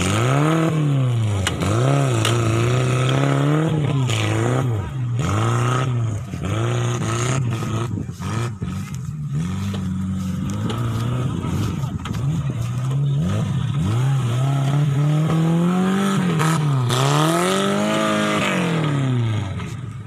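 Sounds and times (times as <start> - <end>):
buggy engine revving: 0.0 - 20.0.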